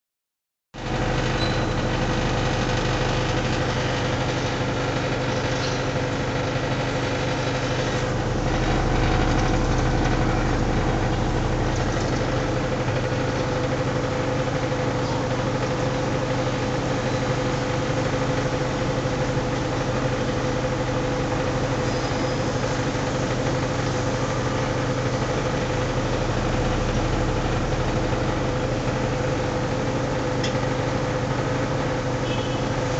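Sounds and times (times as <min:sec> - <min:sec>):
air conditioner unit humming: 0:02.2 - 0:32.9.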